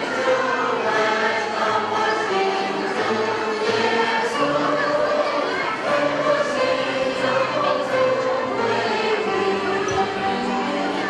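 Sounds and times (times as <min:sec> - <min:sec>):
mixed choir singing: 0:00.0 - 0:11.0.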